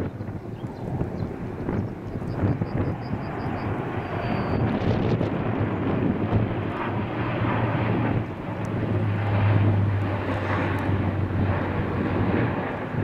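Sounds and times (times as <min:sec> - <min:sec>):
turboprop plane droning overhead: 0:00.0 - 0:13.0.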